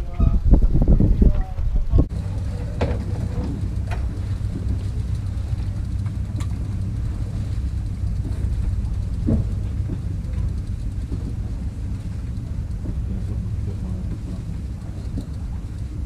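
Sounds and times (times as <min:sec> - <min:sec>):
boat engine rumbling: 0:00.0 - 0:16.0
faint clicks: 0:02.6 - 0:16.0.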